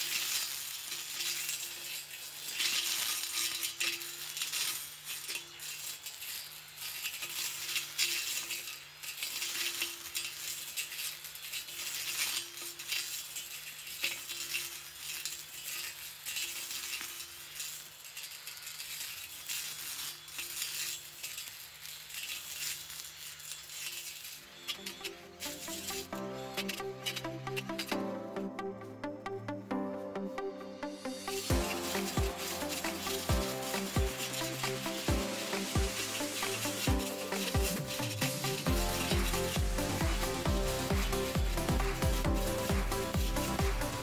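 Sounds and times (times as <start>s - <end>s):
blade crackling through grass: 0.0s - 44.0s
electric motor hum: 0.0s - 44.0s.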